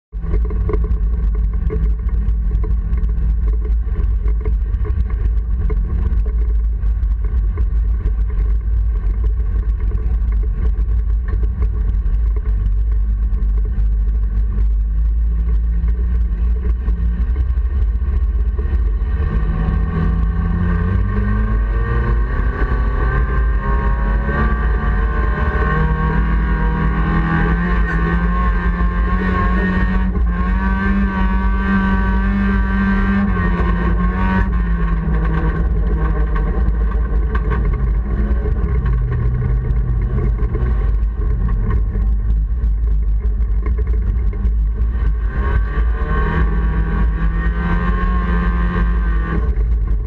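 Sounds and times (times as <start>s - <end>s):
car engine revving: 0.1s - 50.0s.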